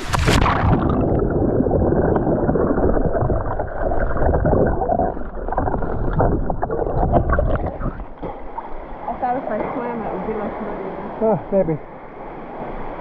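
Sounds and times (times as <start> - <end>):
water splashing from swimming: 0.0 - 11.2.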